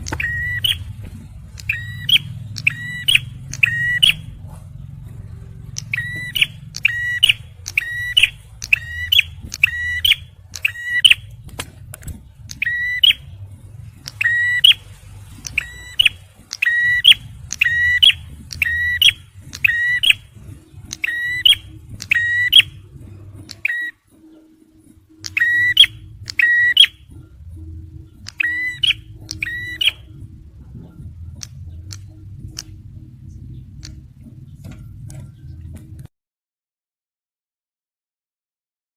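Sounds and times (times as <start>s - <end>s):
bird singing sharp repeated notes: 0.0s - 36.1s
low background hum: 0.0s - 36.1s.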